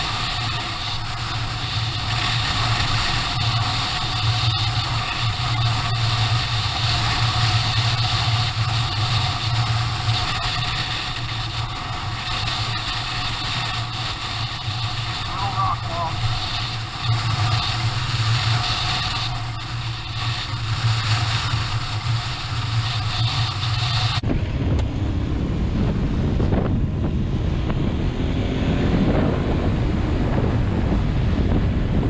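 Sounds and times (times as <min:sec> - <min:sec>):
motorcycle engine running: 0:00.0 - 0:32.0
wind noise on microphone: 0:00.0 - 0:32.0.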